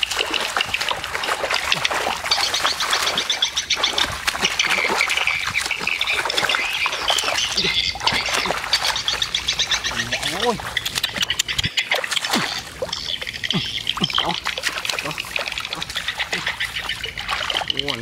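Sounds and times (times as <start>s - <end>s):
duck-like animal calls: 0.0s - 18.0s
water sloshing: 0.0s - 18.0s.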